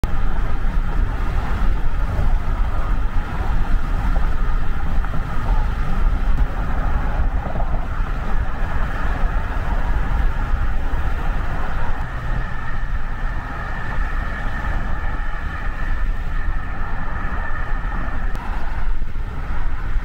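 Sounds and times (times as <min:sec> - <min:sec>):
car road noise: 0:00.0 - 0:20.0
wind rushing hiss: 0:00.2 - 0:20.0.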